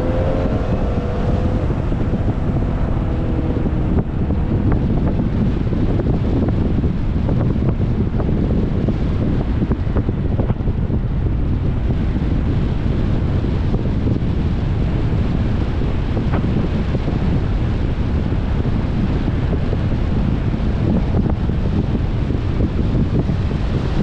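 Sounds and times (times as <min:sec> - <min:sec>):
car road noise: 0:00.0 - 0:24.0
wind rumble on microphone: 0:00.0 - 0:24.0.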